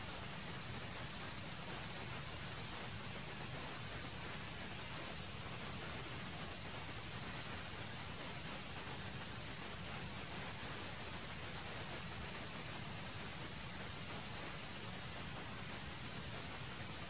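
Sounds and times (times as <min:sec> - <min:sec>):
faint background hiss: 0:00.0 - 0:17.0
insect chorus buzzing: 0:00.0 - 0:17.0.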